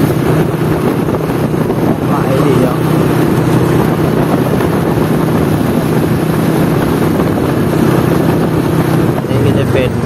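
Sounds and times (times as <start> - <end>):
motorcycle engine running: 0.0 - 10.0
road noise: 0.0 - 10.0
wind noise: 0.0 - 10.0.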